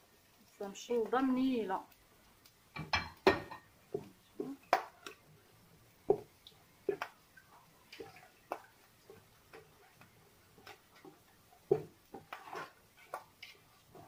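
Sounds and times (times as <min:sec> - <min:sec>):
wet taps of mixing: 0:01.0 - 0:05.3, 0:06.0 - 0:14.0.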